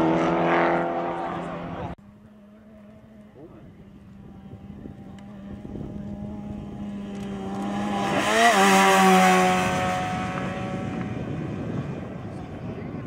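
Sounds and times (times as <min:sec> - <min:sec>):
two-stroke car engine passing: 0:00.0 - 0:13.0.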